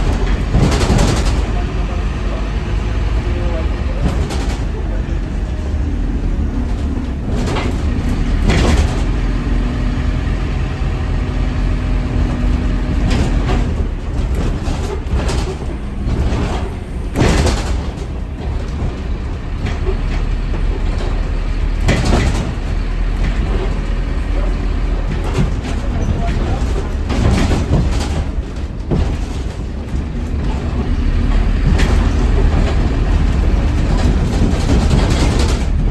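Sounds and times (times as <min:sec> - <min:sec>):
bus diesel engine rumble: 0:00.0 - 0:35.9.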